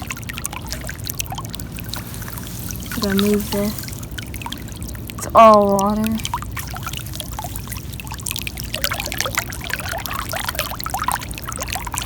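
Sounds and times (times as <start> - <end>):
water pouring and gurgling: 0.0 - 12.0.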